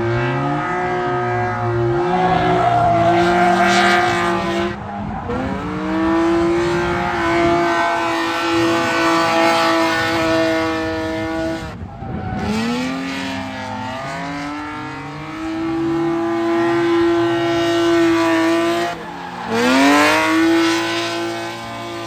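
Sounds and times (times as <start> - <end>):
car engine revving high: 0.0 - 22.0.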